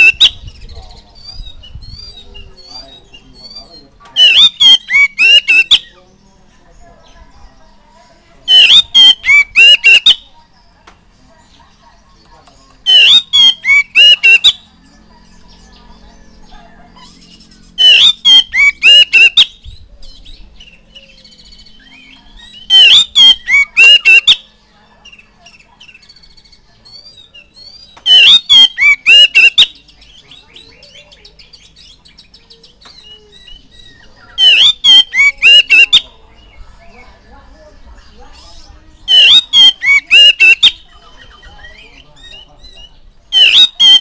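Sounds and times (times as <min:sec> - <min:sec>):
bird singing whistled notes: 0:00.0 - 0:06.0, 0:08.5 - 0:10.4, 0:12.9 - 0:14.6, 0:17.1 - 0:37.2, 0:38.0 - 0:44.0
soft bird twittering: 0:00.0 - 0:44.0.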